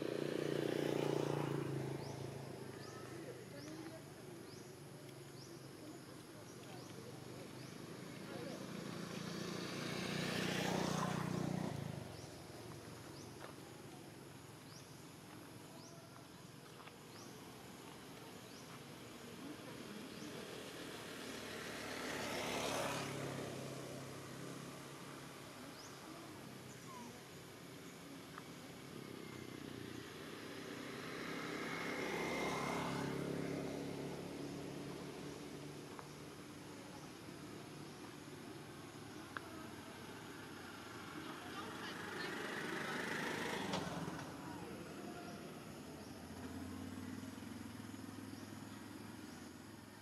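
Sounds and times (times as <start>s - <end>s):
motor vehicle passing: 0.0s - 4.7s, 5.3s - 16.3s, 16.9s - 27.2s, 27.8s - 49.8s.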